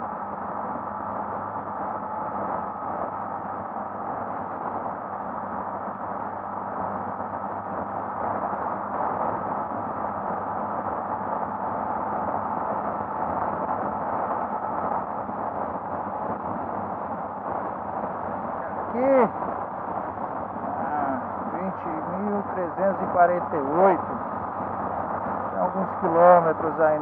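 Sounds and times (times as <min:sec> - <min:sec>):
motorcycle engine drone: 0:00.0 - 0:27.0
wind rush: 0:00.1 - 0:27.0.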